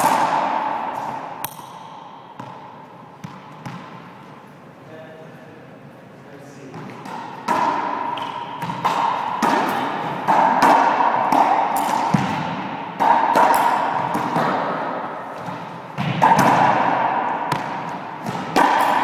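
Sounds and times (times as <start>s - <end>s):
racquetball ball hits: 0.0s - 4.2s, 6.6s - 19.0s.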